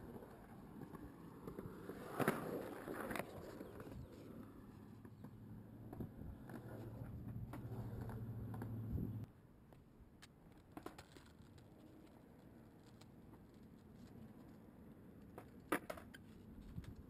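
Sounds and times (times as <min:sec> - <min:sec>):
scooter wheels rolling on concrete: 0:00.0 - 0:17.0.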